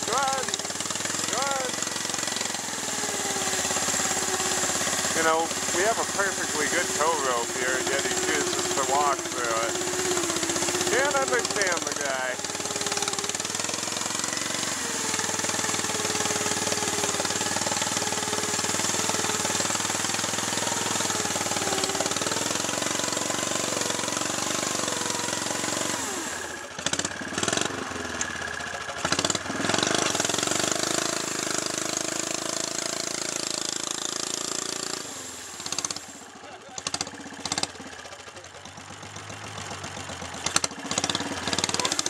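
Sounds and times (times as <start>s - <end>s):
engine sharp cracks: 0.0s - 35.0s, 36.7s - 39.3s, 40.1s - 42.0s
small engine running: 0.0s - 42.0s.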